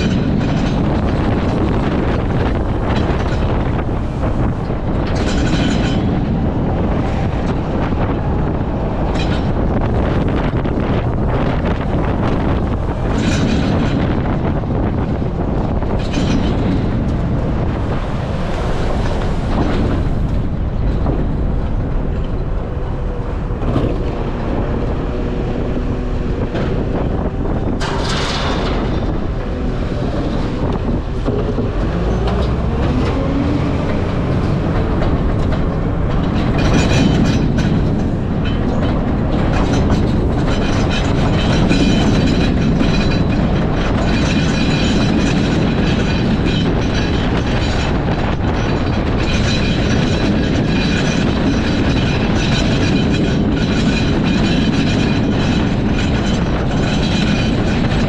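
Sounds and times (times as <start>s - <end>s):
continuous rattling: 0.0s - 58.0s
garbage truck engine rumble: 0.0s - 58.0s.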